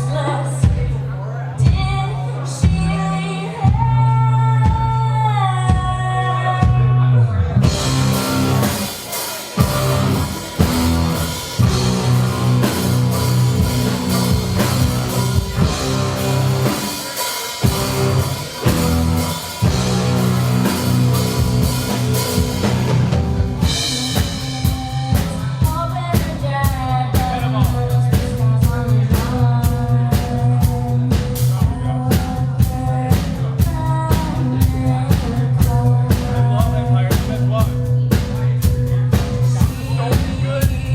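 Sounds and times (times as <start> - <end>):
drums driving beat: 0.0 - 7.0, 7.6 - 40.9
live rock band playing: 0.0 - 40.9.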